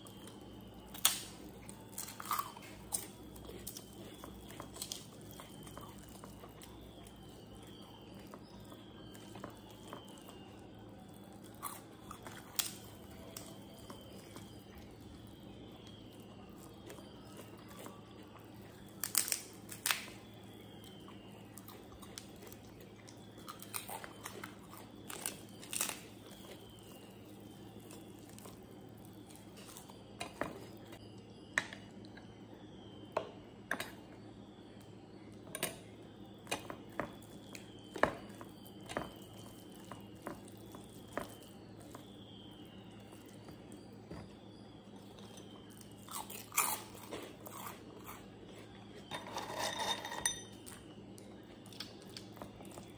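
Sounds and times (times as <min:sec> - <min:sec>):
crunchy food chewing: 0:00.0 - 0:33.0, 0:33.8 - 0:49.7, 0:50.4 - 0:52.9.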